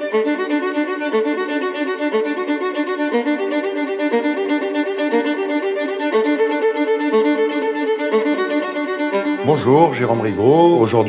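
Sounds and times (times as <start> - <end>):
violin-led melody: 0.0 - 11.0.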